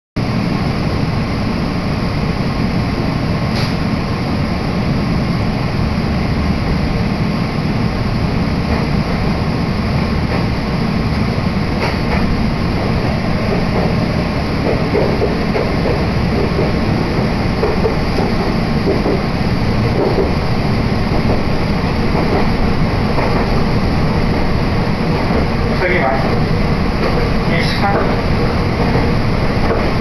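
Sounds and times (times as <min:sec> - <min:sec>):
electric train rumbling: 0:00.2 - 0:30.0.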